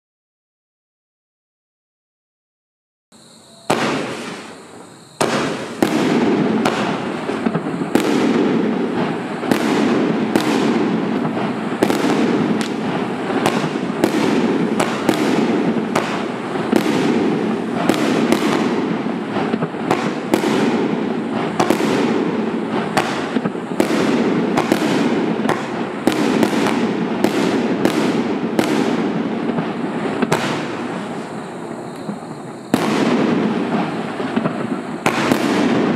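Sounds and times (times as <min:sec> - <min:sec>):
bursting firework effects: 0:03.4 - 0:35.9
fireworks shots banging: 0:03.6 - 0:35.9.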